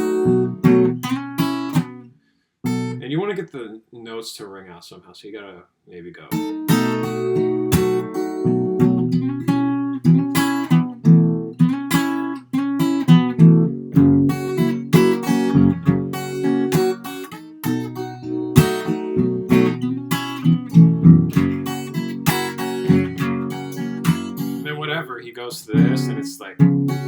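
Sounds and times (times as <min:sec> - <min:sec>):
fingerstyle acoustic guitar: 0:00.0 - 0:03.0, 0:06.3 - 0:27.0.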